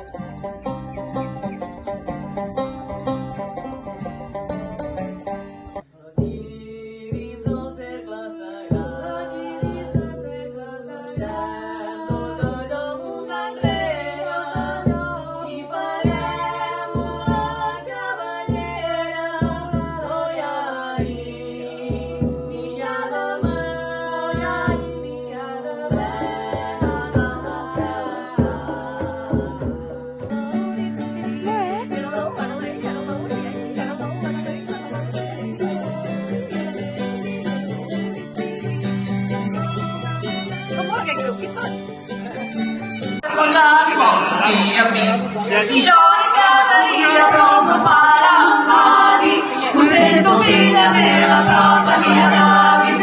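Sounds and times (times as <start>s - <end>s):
low drum beat: 0.1s - 43.2s
person singing: 5.8s - 44.6s, 45.6s - 53.0s.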